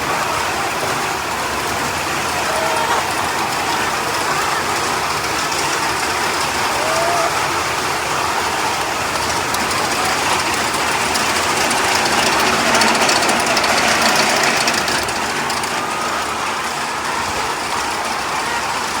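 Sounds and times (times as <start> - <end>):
hens pecking and rustling: 0.1 - 19.0.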